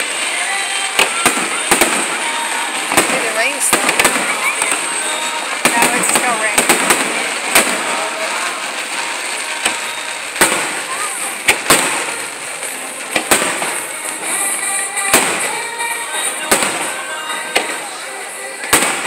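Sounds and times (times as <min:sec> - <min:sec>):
background voices: 0:00.0 - 0:19.0
fireworks bursting: 0:00.0 - 0:19.0.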